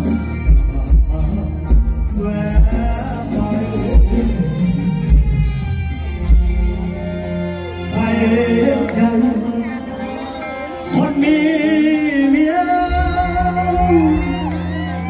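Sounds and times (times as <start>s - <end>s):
man singing: 0.0s - 5.5s, 7.2s - 15.0s
live band through stage pa: 0.0s - 15.0s.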